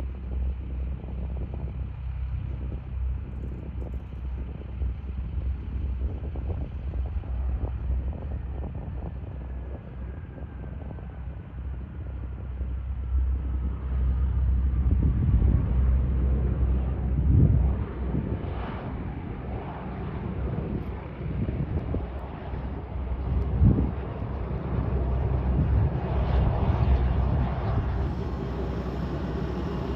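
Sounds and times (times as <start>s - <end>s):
jet engines rumbling: 0.0s - 29.9s.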